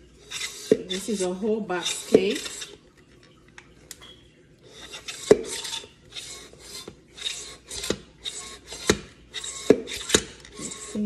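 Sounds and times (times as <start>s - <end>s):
batter mixer scraping strokes: 0.0s - 2.8s, 4.6s - 11.0s.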